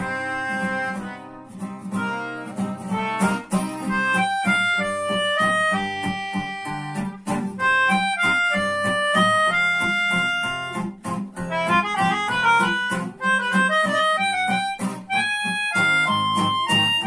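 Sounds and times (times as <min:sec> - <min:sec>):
melodica melody: 0:00.0 - 0:17.0
strummed acoustic guitar: 0:00.0 - 0:17.0.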